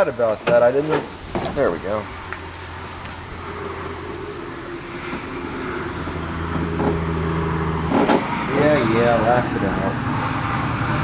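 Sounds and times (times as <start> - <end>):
vehicle engine running: 0.1 - 11.0.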